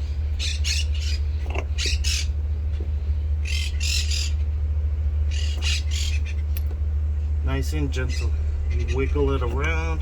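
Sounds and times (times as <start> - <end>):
birds squawking: 0.0 - 6.6, 7.8 - 9.6
steady low hum: 0.0 - 10.0.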